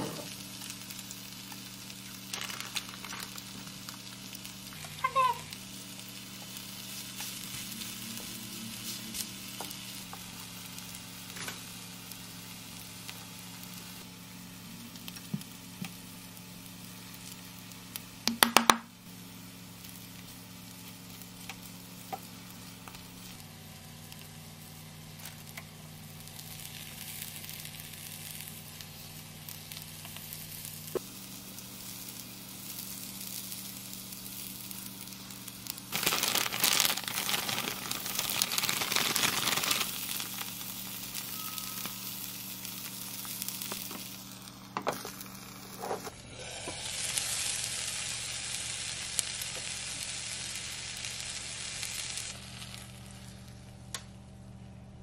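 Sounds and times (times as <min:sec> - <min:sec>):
food sizzling in a frying pan: 0:00.0 - 0:53.9.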